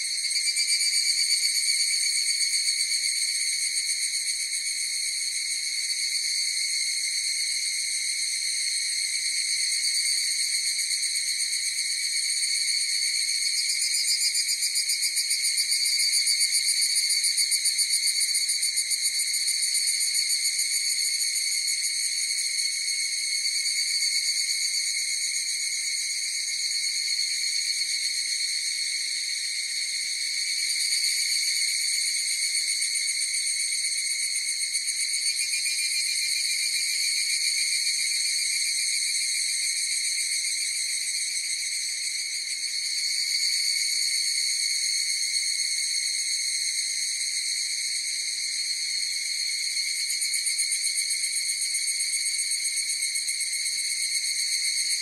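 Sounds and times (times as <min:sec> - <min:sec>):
chorus of cicadas: 0:00.0 - 0:55.0.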